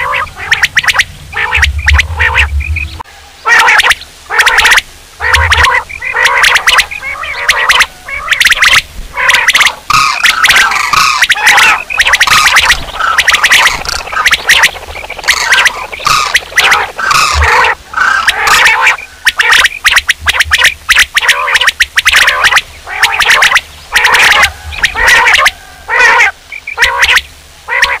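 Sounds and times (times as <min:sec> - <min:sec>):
quail calling: 0:00.0 - 0:28.0.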